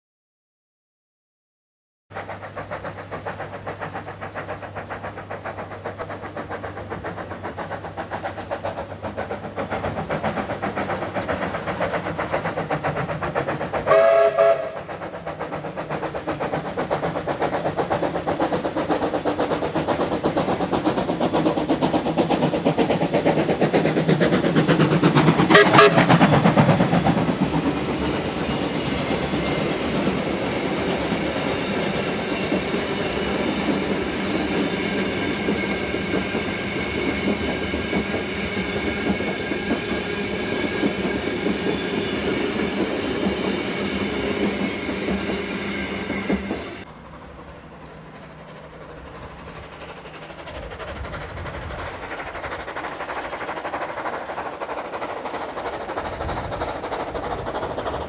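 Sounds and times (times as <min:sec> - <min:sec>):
steam locomotive passing: 0:02.1 - 0:58.0.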